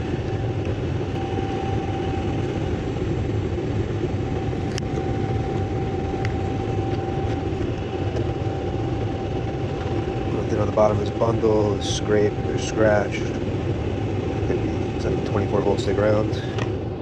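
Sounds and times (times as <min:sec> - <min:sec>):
machine humming with whine: 0:00.0 - 0:17.0.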